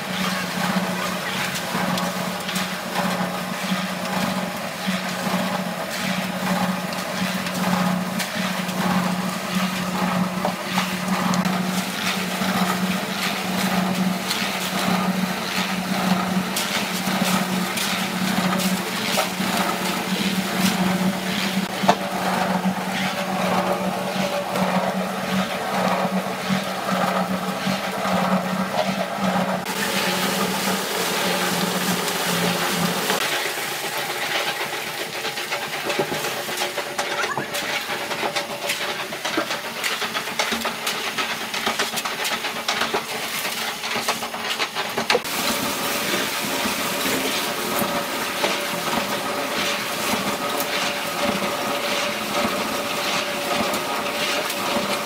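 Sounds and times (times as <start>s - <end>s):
concrete mixer humming: 0.0s - 55.0s
hoe scraping wet concrete: 0.0s - 55.0s.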